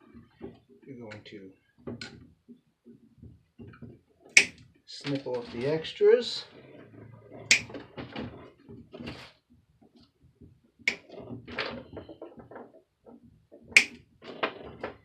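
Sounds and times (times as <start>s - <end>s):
handling clicks and rustles: 0.0s - 15.0s.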